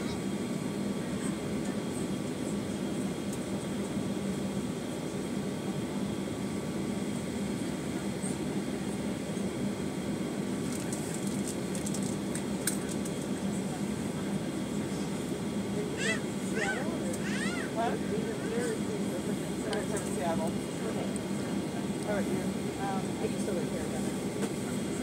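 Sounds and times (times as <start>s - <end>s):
jet engines idling: 0.0s - 25.0s.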